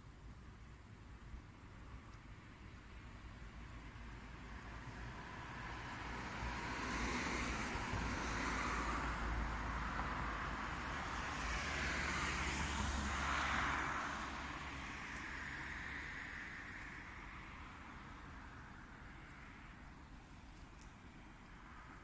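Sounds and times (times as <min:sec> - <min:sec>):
road traffic passing: 0:00.1 - 0:22.0.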